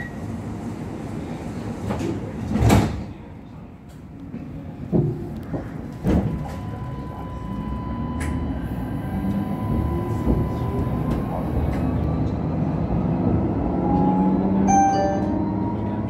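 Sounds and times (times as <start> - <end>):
tram rumble with whine: 0.0 - 16.0.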